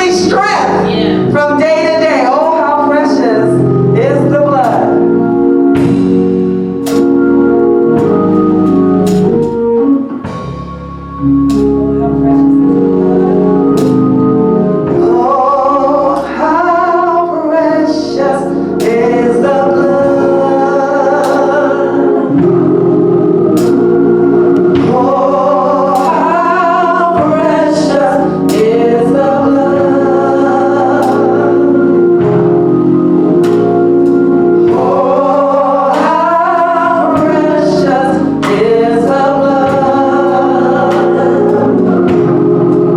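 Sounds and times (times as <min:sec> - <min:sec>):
organ chords: 0:00.0 - 0:42.9
voices singing gospel: 0:00.0 - 0:42.9.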